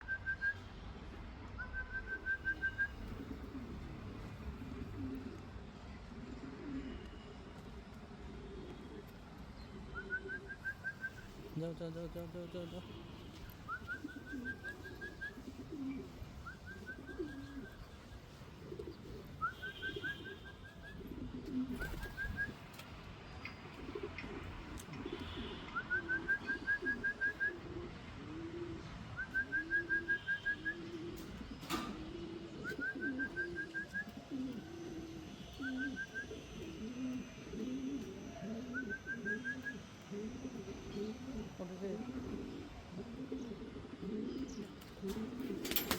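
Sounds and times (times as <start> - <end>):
pigeons cooing: 2.1 - 7.2, 8.2 - 11.6, 13.7 - 22.6, 23.7 - 45.9.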